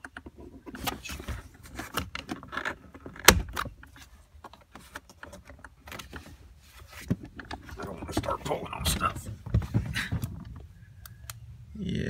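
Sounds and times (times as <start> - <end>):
plastic clicking and rubbing: 0.0 - 11.4.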